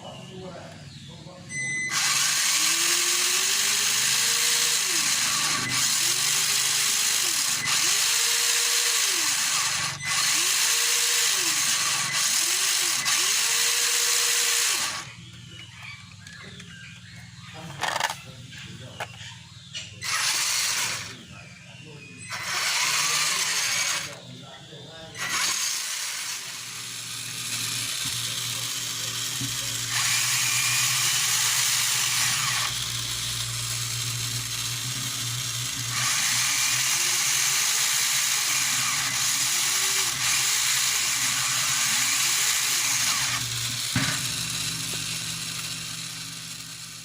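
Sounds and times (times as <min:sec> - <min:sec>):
gear grinding: 0:00.0 - 0:47.0
small electric motor whirring: 0:01.6 - 0:18.3, 0:19.0 - 0:21.3, 0:22.2 - 0:24.5, 0:25.2 - 0:47.0.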